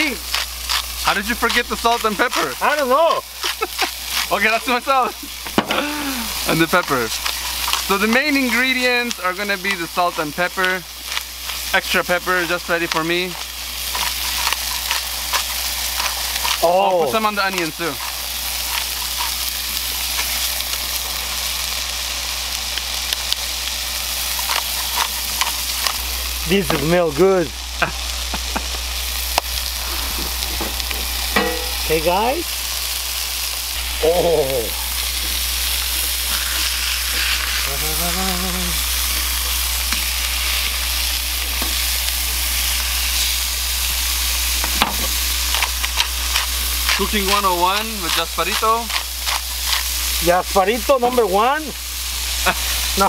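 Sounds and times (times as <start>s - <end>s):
sharp crackling pops: 0.0s - 38.0s, 38.6s - 51.2s
meat and onions sizzling in skillet: 0.0s - 53.0s.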